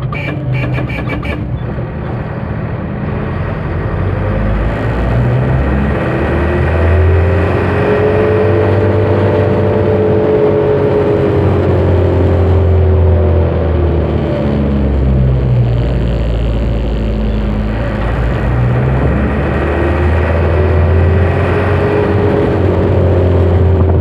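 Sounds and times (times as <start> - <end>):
truck engine running: 0.0 - 24.0
whine rising and falling in pitch: 0.0 - 24.0.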